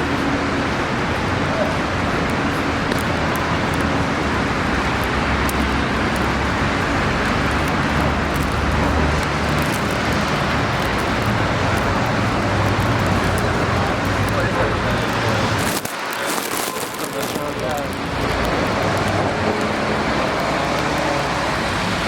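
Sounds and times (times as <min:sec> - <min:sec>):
passing engines humming: 0:00.0 - 0:22.0
road noise rushing: 0:00.0 - 0:22.0.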